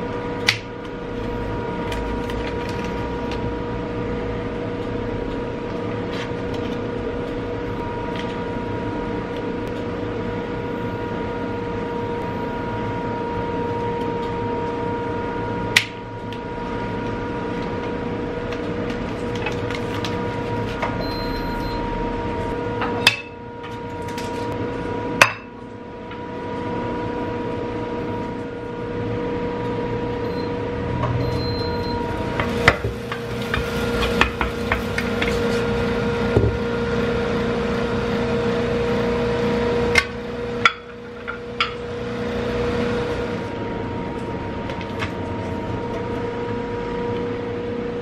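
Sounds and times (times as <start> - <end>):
steady electrical hum: 0.0 - 48.0.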